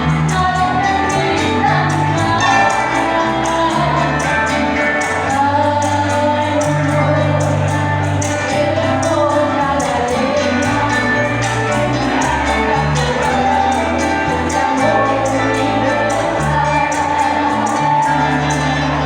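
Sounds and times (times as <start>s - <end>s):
long held bass notes: 0.0s - 19.0s
woman singing: 0.0s - 19.0s.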